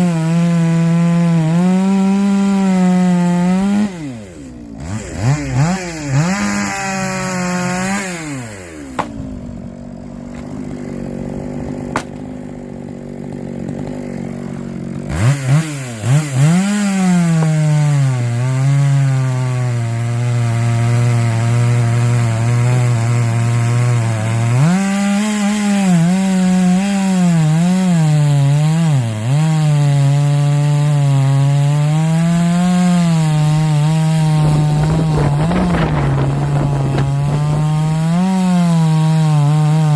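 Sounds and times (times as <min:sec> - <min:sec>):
chainsaw cutting wood: 0:00.0 - 0:39.9
chainsaw engine revving: 0:00.0 - 0:39.9.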